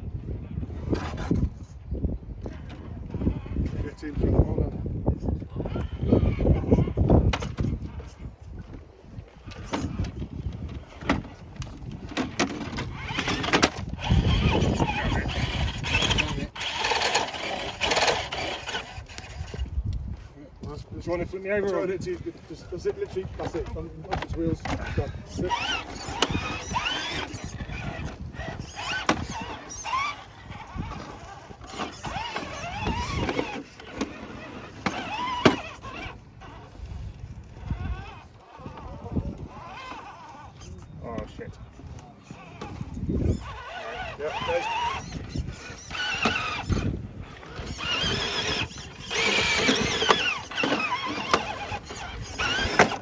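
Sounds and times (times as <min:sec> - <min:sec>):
small electric motor whining: 0:05.4 - 0:20.3, 0:21.1 - 0:53.0.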